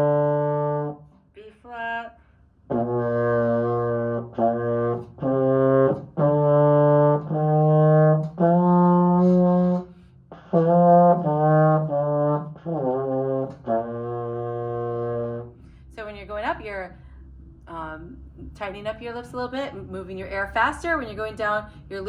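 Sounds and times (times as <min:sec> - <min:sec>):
euphonium playing a slow scale: 0:02.7 - 0:22.0.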